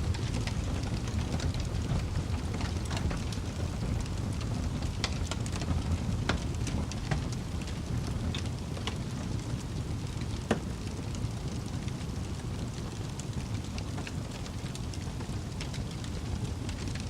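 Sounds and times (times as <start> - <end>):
fire popping and snapping: 0.0 - 17.0
low rumble of burning: 0.0 - 17.0
wood fire crackling: 0.0 - 17.0.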